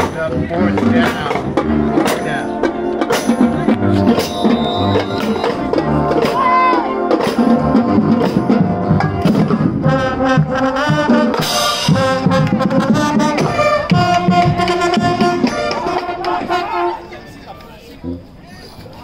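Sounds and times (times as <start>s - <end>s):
steady drum beat: 0.0s - 16.7s
sustained brass chords: 0.0s - 17.2s
marching band playing: 0.0s - 18.6s.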